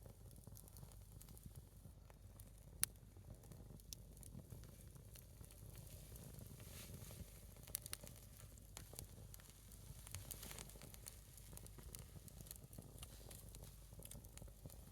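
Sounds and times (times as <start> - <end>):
fire hissing softly: 0.0 - 14.9
firewood crackling and popping: 0.0 - 14.9.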